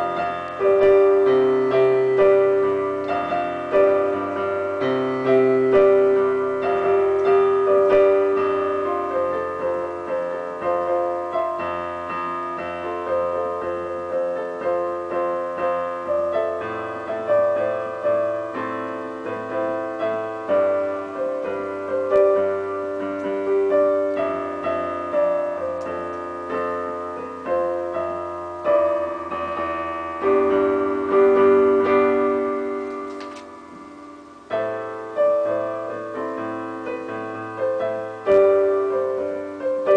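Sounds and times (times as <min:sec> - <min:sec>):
digital piano playing: 0:00.0 - 0:39.9.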